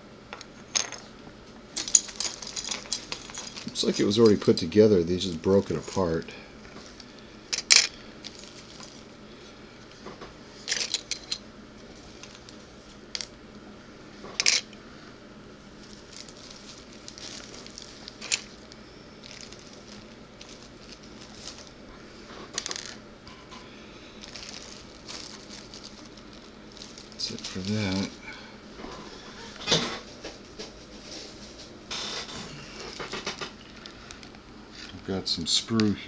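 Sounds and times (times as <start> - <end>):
soft handling noise: 1.8 - 13.4, 15.7 - 35.1.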